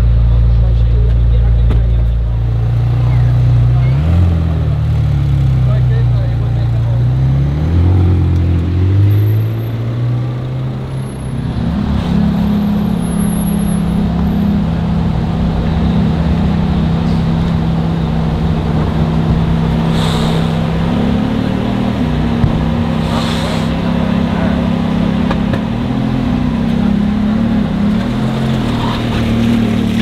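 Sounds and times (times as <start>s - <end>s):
sports car engine: 0.0s - 30.0s.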